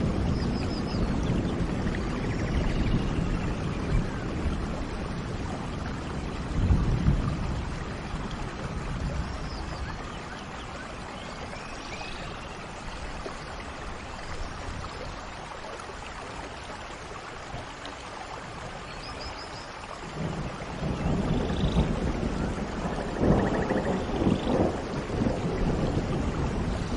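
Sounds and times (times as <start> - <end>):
heavy rain: 0.0 - 26.9.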